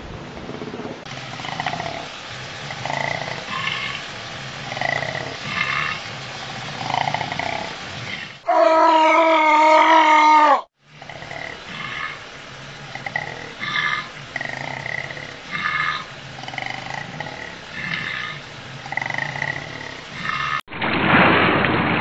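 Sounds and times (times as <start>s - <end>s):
koala bellowing: 1.2s - 20.6s.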